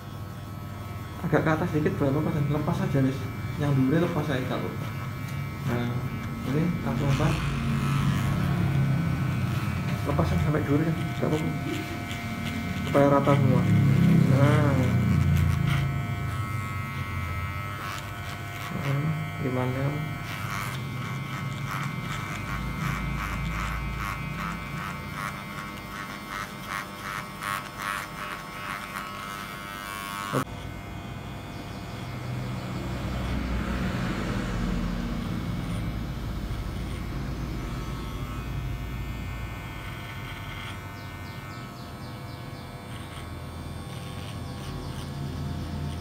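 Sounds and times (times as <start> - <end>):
electric hair clippers buzzing: 0.0 - 46.0.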